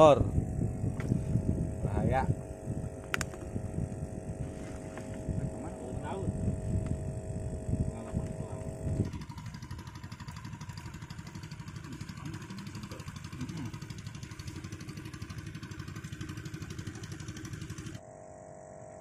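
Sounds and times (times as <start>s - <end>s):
small engine puttering: 0.6s - 18.0s.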